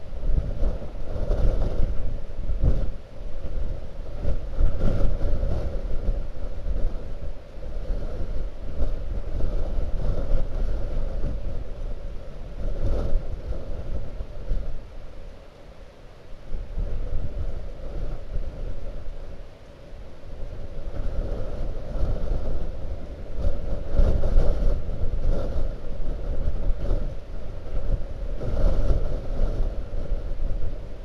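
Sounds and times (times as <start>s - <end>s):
faint wind howl: 0.0s - 31.0s
wind gusting on microphone: 0.0s - 31.0s.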